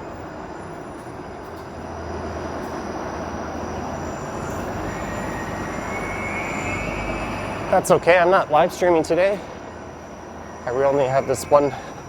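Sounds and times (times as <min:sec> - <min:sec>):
faint high whine: 0:00.0 - 0:12.0
streetcar running on rails: 0:00.0 - 0:12.0.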